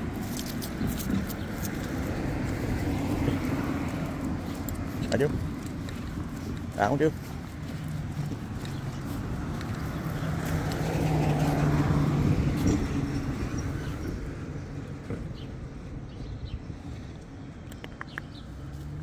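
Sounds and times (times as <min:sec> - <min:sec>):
car passing: 0:00.0 - 0:17.6.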